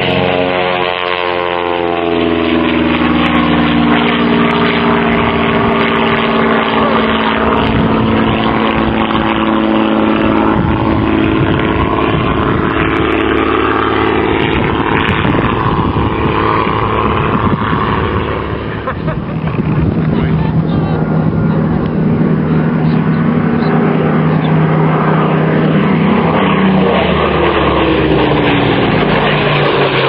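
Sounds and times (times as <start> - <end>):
propeller aircraft flying past: 0.0 - 30.0.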